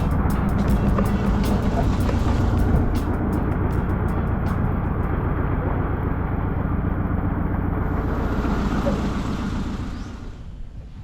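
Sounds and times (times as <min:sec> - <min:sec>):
vehicle rumbling in motion: 0:00.0 - 0:11.0.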